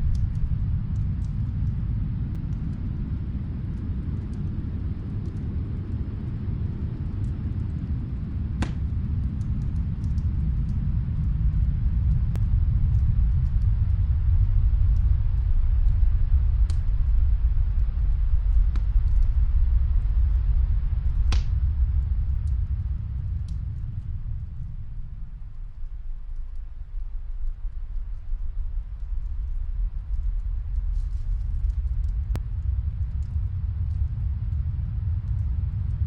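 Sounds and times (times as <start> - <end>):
snowstorm wind rumble: 0.0 - 36.0
wood fire crackling: 0.0 - 36.0.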